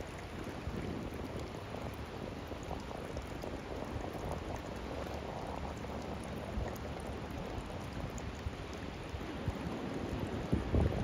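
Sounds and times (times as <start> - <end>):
water fizzing among rocks: 0.0 - 11.0.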